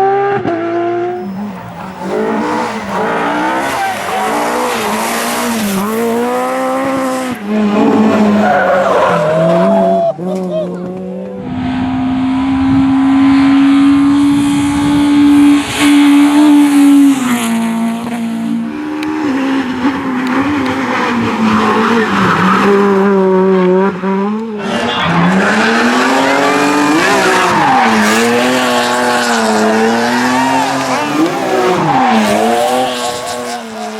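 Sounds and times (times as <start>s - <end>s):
rally car engine at high revs: 0.0s - 33.9s
rally car engine revving: 0.0s - 33.9s.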